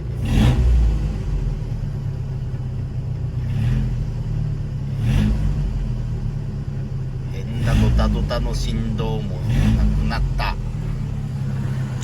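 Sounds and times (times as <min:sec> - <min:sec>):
car engine rumbling under load: 0:00.0 - 0:12.0.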